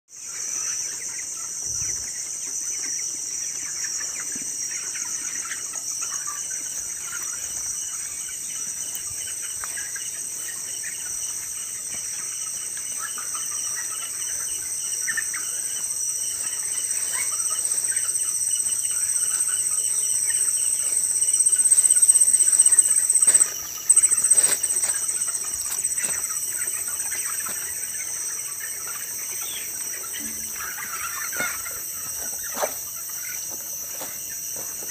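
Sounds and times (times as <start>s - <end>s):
chickens peeping and clucking: 0.1s - 34.9s
night insects trilling: 0.1s - 34.9s.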